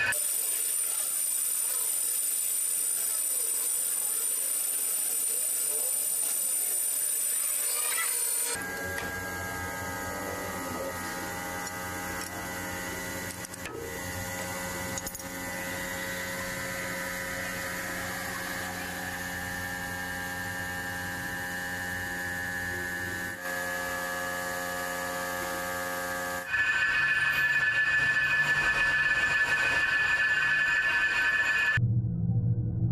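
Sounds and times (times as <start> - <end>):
lathe machine hum: 0.0 - 31.8
lathe tool cutting whine: 0.0 - 31.8.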